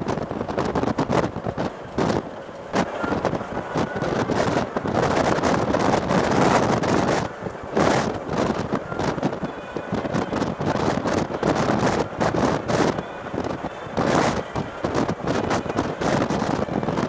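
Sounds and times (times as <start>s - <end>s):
vehicle running noise: 0.0s - 17.0s
wind buffeting microphone: 0.0s - 17.0s.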